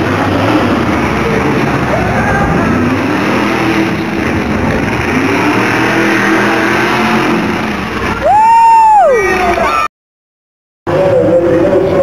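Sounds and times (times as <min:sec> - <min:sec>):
truck engine revving hard: 0:00.0 - 0:09.9.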